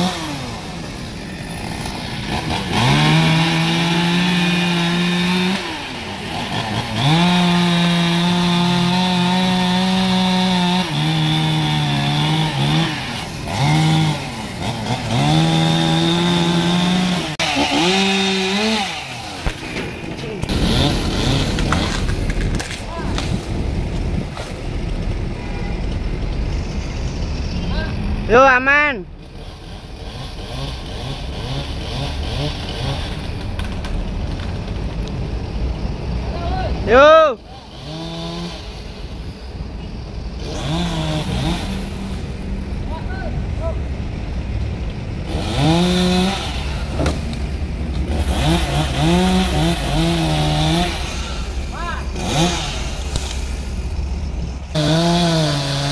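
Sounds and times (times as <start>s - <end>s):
chainsaw revving: 0.0s - 24.6s, 29.2s - 34.3s, 36.8s - 39.2s, 40.4s - 43.8s, 45.2s - 55.9s
engine running: 0.0s - 55.9s.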